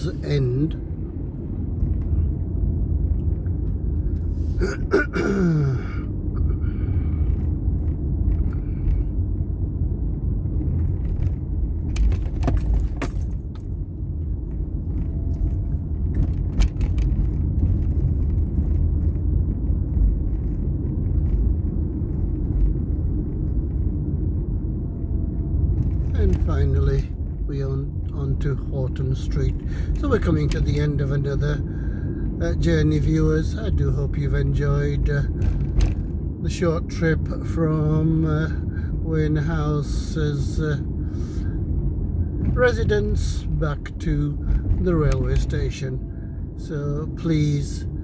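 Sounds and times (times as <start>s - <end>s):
engine and road noise rumble: 0.0s - 48.0s.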